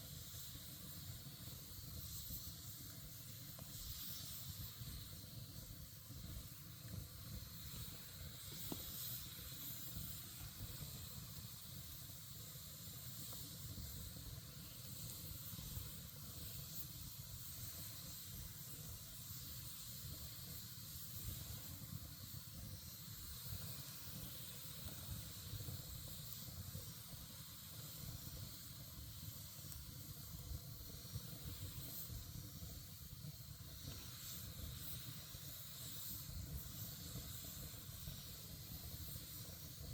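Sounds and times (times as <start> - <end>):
campfire hissing and crackling: 0.0 - 39.9.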